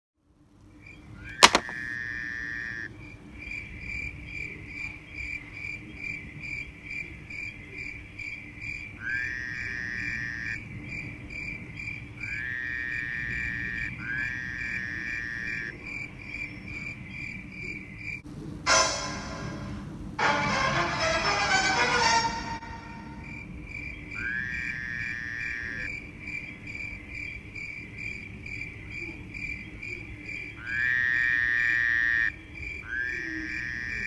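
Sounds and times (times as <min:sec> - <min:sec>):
insect chirping: 0:01.6 - 0:18.2, 0:23.2 - 0:34.0.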